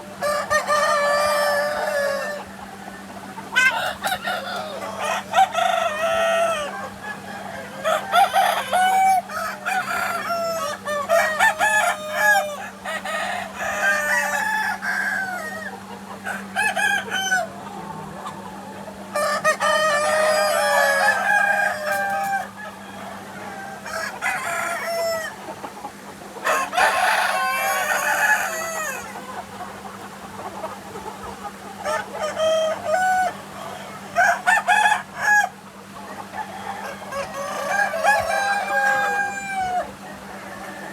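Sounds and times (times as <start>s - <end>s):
chickens clucking: 0.0s - 40.9s
roosters crowing: 0.0s - 40.9s.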